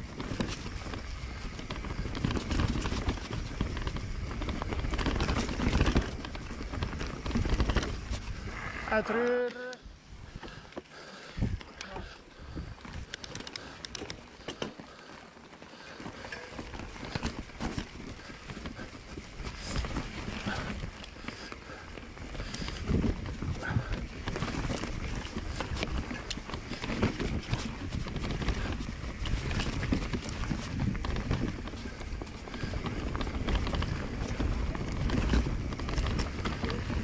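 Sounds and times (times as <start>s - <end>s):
bike frame rattling and clattering: 0.0s - 8.6s, 10.2s - 37.0s
tyre and wind rumble: 0.0s - 37.0s.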